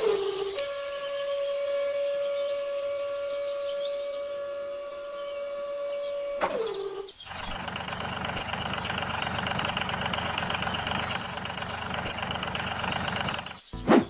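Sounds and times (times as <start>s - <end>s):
motor running with rapid pulsing: 0.0s - 13.7s.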